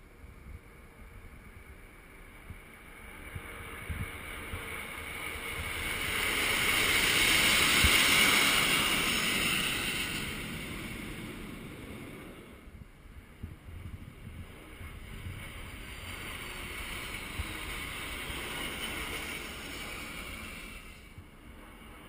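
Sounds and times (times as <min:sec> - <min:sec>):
jets roaring overhead: 0:00.1 - 0:22.0.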